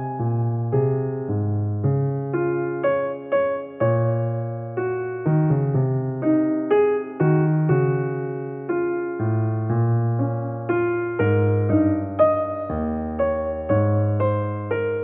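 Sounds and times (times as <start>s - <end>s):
slow electric piano melody: 0.0s - 15.0s.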